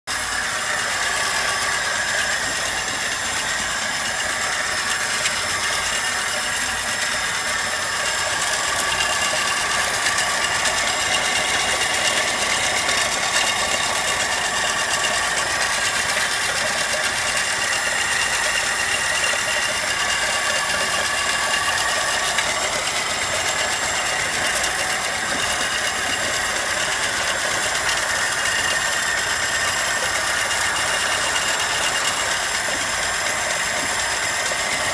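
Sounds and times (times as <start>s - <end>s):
car engine running: 0.1s - 34.9s.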